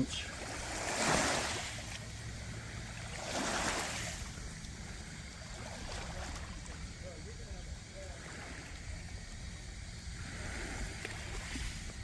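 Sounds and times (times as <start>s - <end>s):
lake water rushing: 0.0s - 12.0s.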